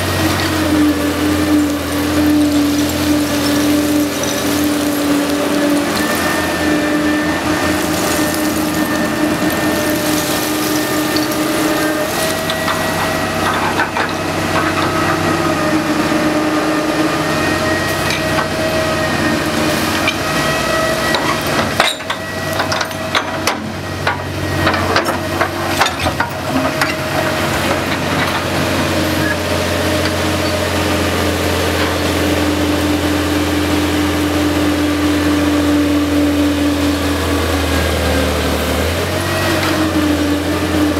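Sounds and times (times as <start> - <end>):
dragline engine and winch hum: 0.0 - 40.9.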